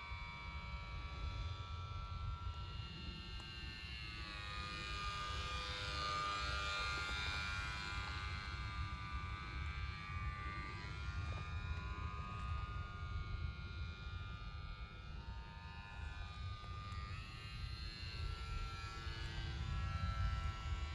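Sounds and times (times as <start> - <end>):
model plane motor buzzing: 2.2 - 20.9.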